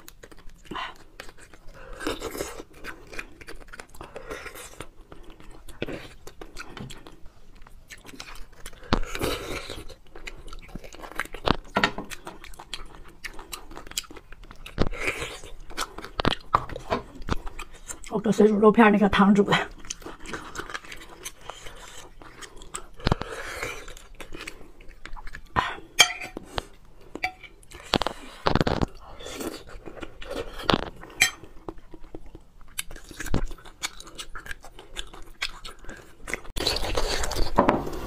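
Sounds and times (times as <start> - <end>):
wet chewing and mouth smacks: 0.0 - 18.1, 19.7 - 38.0.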